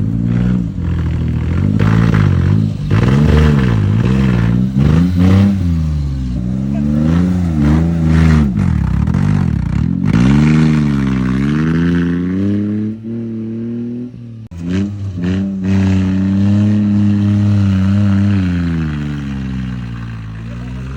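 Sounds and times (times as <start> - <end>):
small truck engine revving: 0.0 - 20.9.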